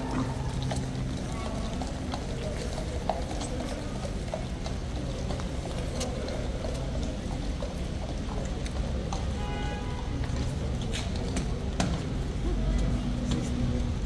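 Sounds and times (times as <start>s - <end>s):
horse hooves on wet paving: 0.0s - 14.0s
rain on a wet street: 0.0s - 14.0s.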